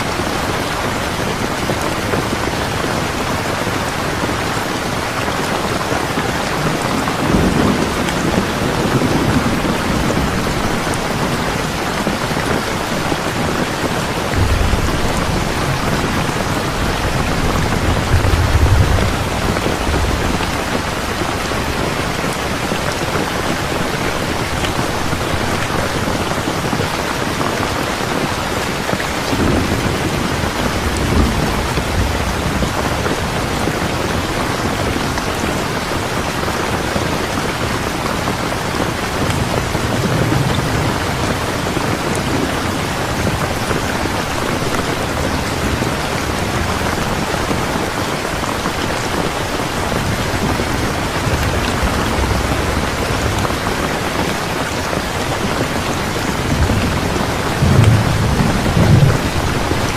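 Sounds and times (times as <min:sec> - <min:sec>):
heavy rain: 0:00.0 - 0:59.9
thunder rumbling: 0:00.1 - 0:59.9.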